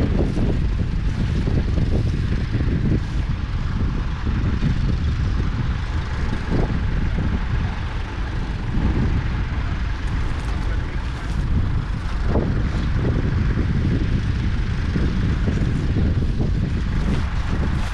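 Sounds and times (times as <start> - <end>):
diesel engine idling: 0.0 - 17.9.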